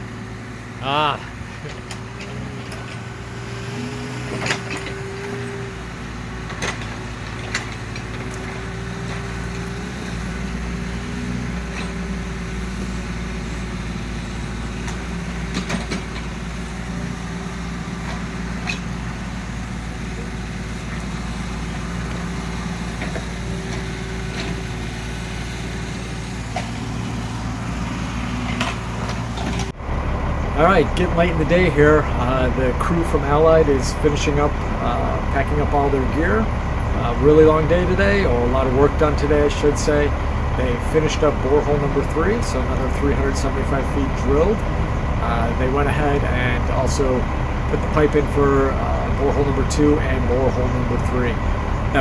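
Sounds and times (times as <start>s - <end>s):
heavy engine droning: 0.0s - 52.0s.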